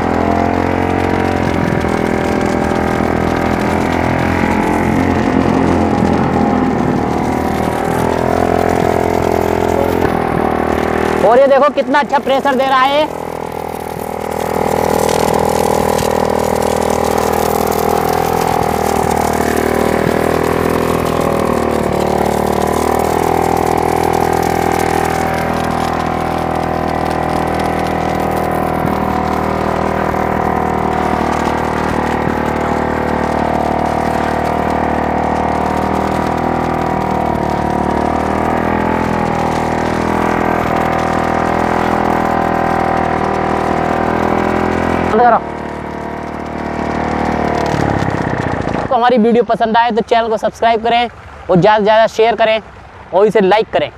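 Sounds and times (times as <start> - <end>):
water pump engine running: 0.0 - 53.9.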